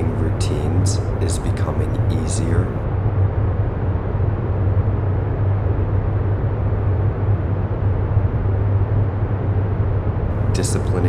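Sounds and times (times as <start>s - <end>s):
low humming drone: 0.0s - 11.0s.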